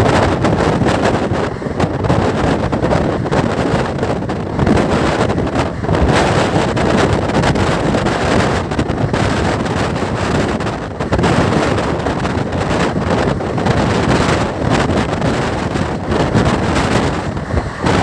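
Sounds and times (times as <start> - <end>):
train coaches running on rails: 0.0 - 18.0
wind buffeting microphone: 0.0 - 18.0.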